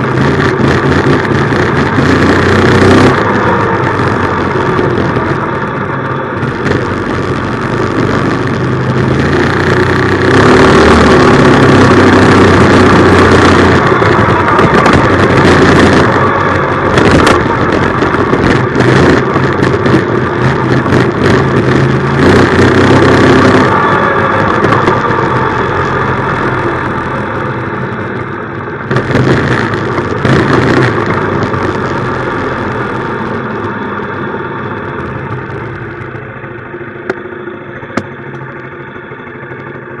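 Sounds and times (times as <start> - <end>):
minibike engine running: 0.0 - 40.0.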